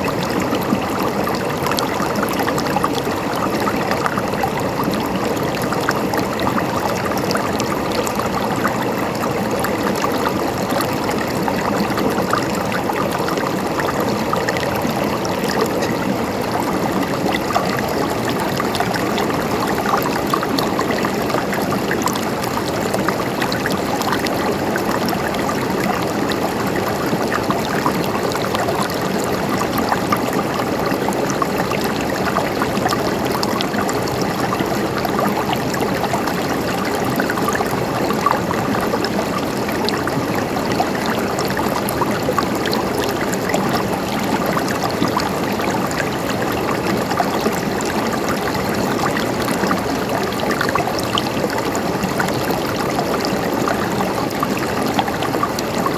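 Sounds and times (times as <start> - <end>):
stream babbling over stones: 0.0 - 55.9.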